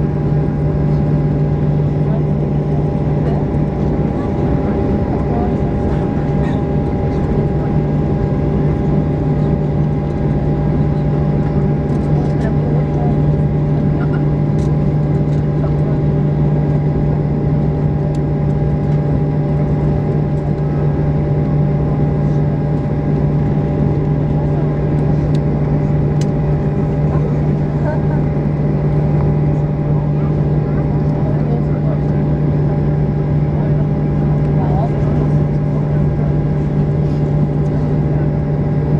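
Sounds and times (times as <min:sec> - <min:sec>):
aircraft cabin low hum: 0:00.0 - 0:38.9
high steady whines: 0:00.0 - 0:38.9.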